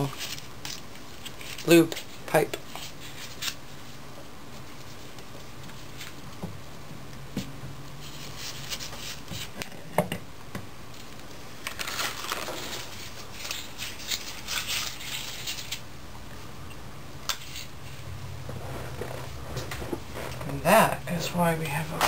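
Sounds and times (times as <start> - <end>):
rustling and scraping: 0.0 - 6.6, 7.4 - 9.8, 10.9 - 15.8, 17.3 - 22.0.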